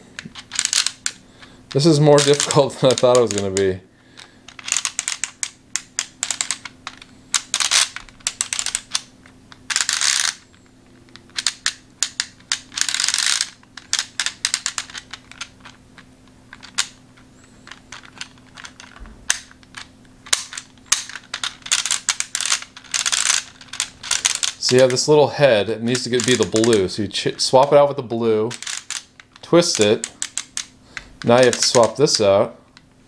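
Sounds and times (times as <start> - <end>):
plastic puzzle discs clicking: 0.2 - 17.0, 17.6 - 25.1, 25.9 - 26.9, 28.5 - 32.8.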